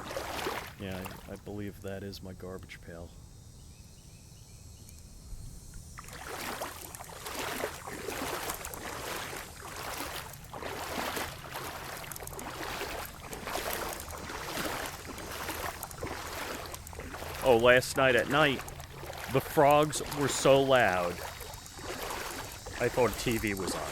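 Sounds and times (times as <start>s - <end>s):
footsteps wading through water: 0.0s - 1.7s, 6.0s - 23.9s.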